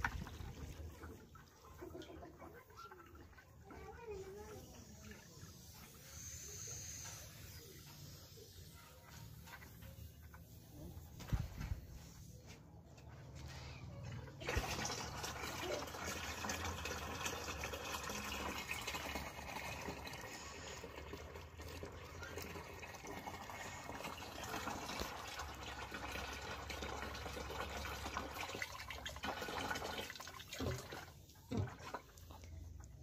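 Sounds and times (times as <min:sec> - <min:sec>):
water splashing from hose into tank: 0:00.0 - 0:11.9, 0:13.0 - 0:33.0.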